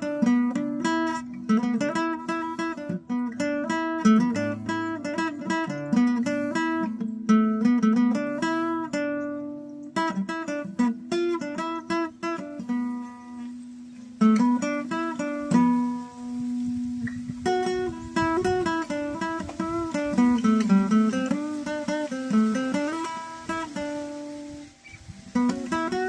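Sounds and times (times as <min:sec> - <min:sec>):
acoustic guitar fingerpicked: 0:00.0 - 0:26.0.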